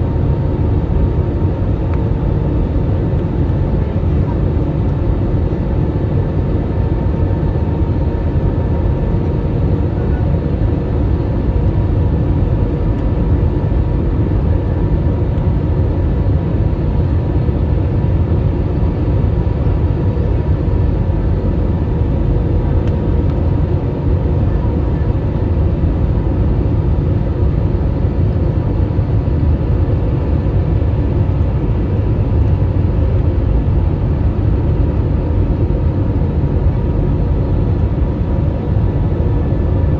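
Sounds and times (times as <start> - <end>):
faint jet engine whine: 0.0 - 39.9
jet engine rumble: 0.0 - 39.9.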